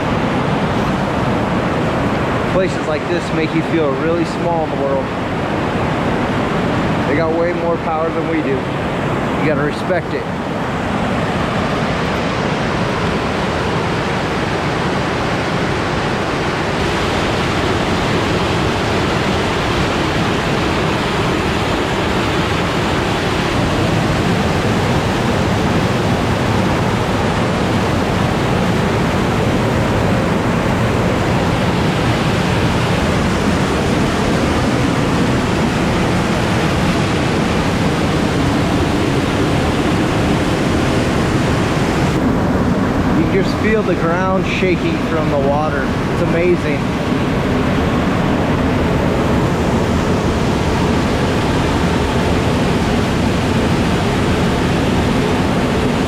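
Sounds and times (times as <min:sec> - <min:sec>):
waterfall crashing: 0:00.0 - 0:56.0.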